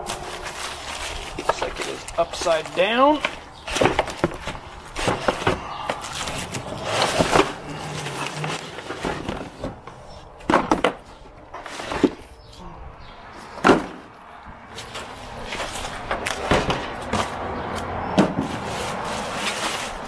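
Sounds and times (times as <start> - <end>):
cardboard and plastic wrap rustling: 0.0 - 12.5, 14.7 - 17.4, 18.2 - 20.0.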